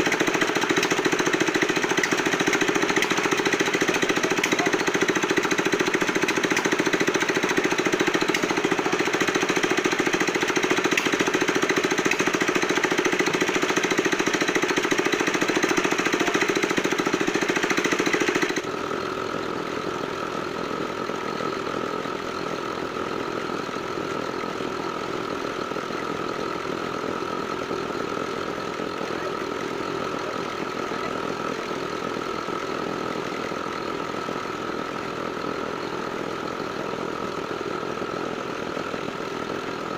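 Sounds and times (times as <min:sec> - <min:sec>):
diesel mixer engine knocking: 0:00.0 - 0:39.9.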